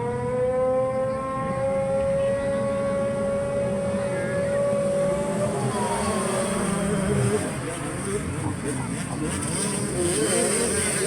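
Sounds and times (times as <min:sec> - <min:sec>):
motocross bike engine at high revs: 0:00.0 - 0:11.0.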